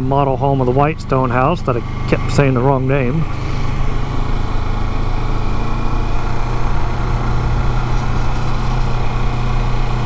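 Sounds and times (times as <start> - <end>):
motorcycle engine droning: 0.0 - 10.0.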